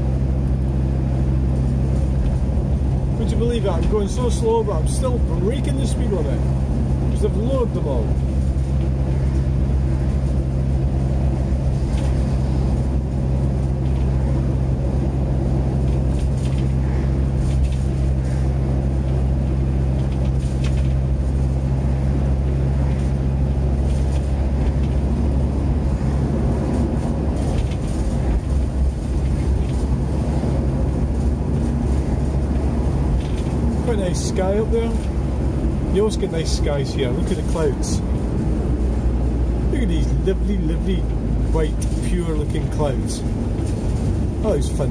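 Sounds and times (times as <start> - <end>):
engine and road drone: 0.0 - 44.9
van interior rattles: 0.0 - 44.9.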